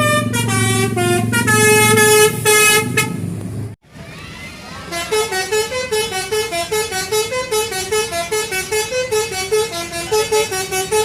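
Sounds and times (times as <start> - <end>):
bus horn playing melody: 0.0 - 3.3, 4.8 - 11.0.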